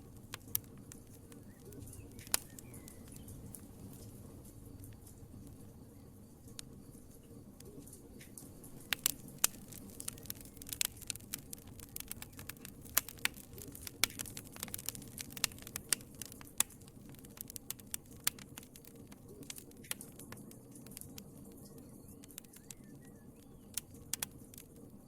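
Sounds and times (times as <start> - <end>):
hiss of flames: 0.0 - 24.9
wood fire crackling and popping: 0.0 - 25.0.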